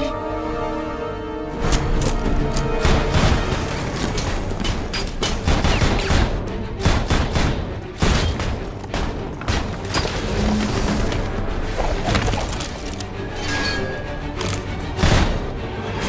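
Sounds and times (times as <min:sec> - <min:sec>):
film score music: 0:00.0 - 0:16.0.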